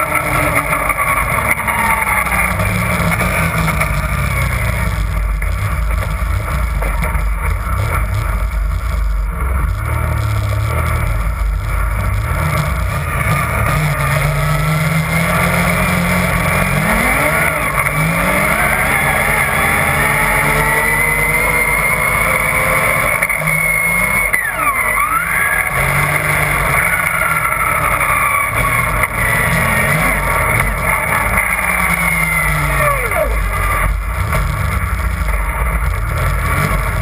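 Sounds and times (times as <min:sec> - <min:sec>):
snowmobile engine running: 0:00.0 - 0:37.0
track and snow noise: 0:00.0 - 0:37.0.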